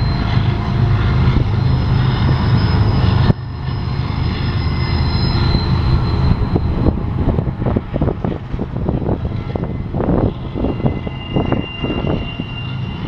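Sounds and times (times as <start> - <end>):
freight train wheels rumbling: 0.0 - 13.0
high wheel squeals: 0.0 - 13.0.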